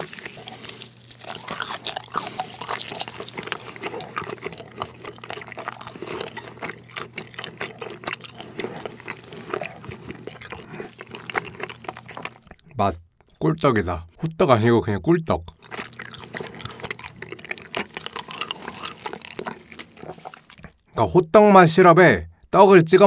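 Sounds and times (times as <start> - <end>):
wet sticky chewing: 0.0 - 13.4, 15.4 - 20.9.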